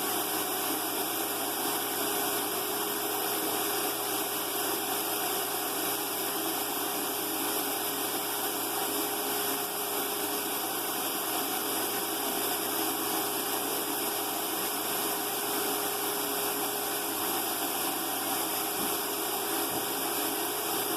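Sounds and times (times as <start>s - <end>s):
motor-driven blower running: 0.0s - 20.9s.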